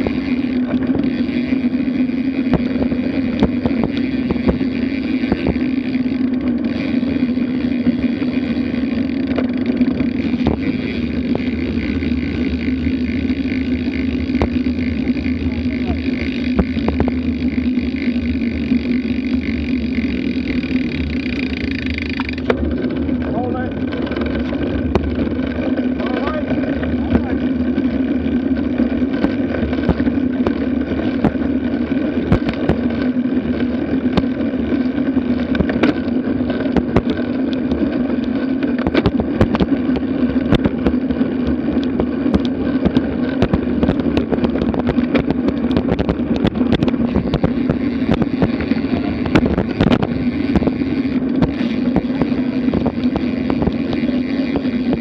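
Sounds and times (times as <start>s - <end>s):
bicycle knocks and rattles: 0.0s - 55.0s
road rumble: 0.0s - 55.0s
wind: 0.0s - 55.0s.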